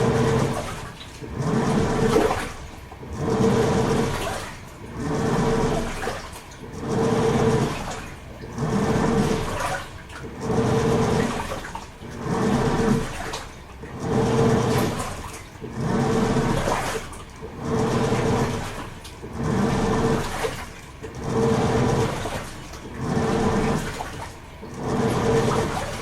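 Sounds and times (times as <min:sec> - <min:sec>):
washing machine motor humming: 0:00.0 - 0:26.0
water churning and sloshing: 0:00.0 - 0:26.0.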